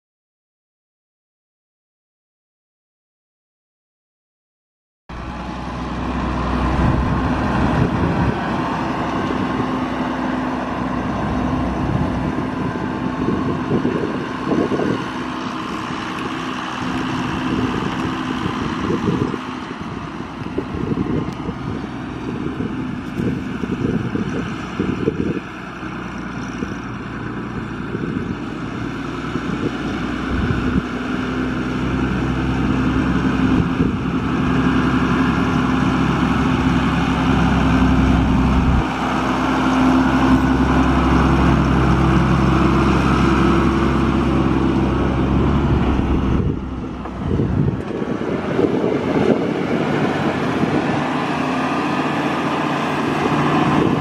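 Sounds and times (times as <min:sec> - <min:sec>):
tractor diesel engine running: 0:05.1 - 0:54.0.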